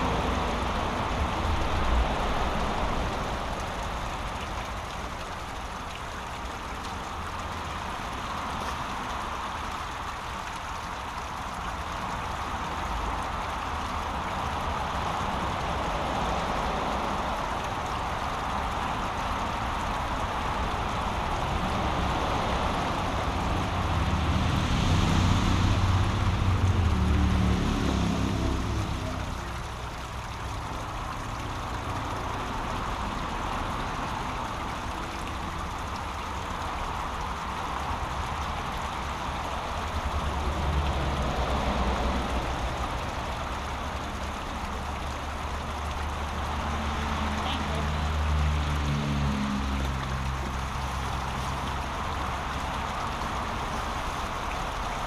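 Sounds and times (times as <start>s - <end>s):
brook water rushing: 0.0s - 55.0s.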